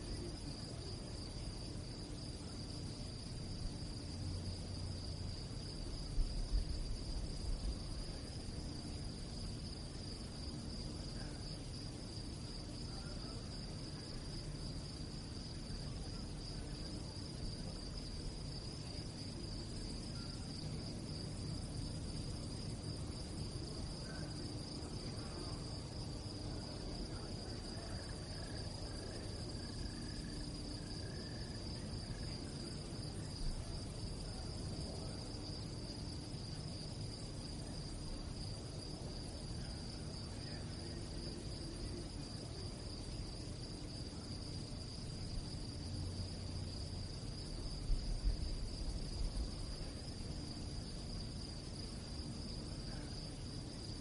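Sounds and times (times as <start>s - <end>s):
crickets chirping: 0.0s - 54.0s
low background rumble: 0.0s - 54.0s.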